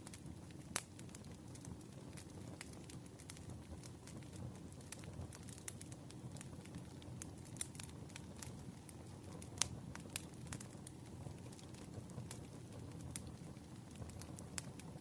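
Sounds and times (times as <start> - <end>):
campfire low rumble: 0.0 - 15.0
wood crackling and popping: 0.0 - 15.0.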